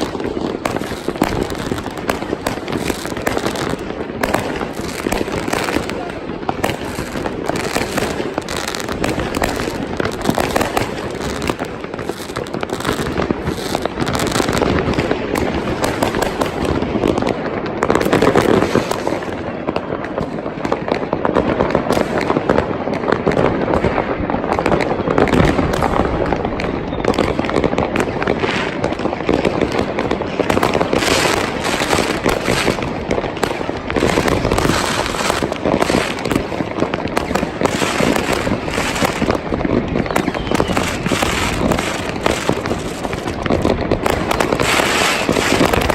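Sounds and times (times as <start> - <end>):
fireworks and firecrackers crackling: 0.0 - 45.9.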